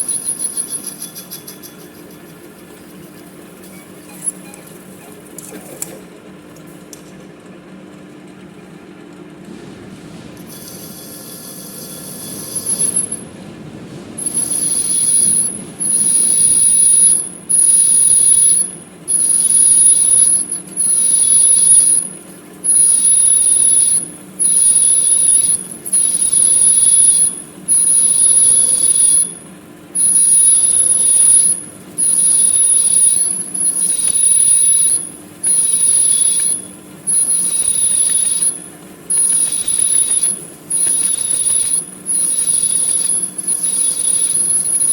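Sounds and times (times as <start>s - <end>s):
high-pitched cutting squeal: 0.0s - 5.1s, 10.5s - 13.3s, 14.2s - 29.4s, 30.0s - 44.9s
lathe motor hum: 0.0s - 6.5s, 8.2s - 44.9s.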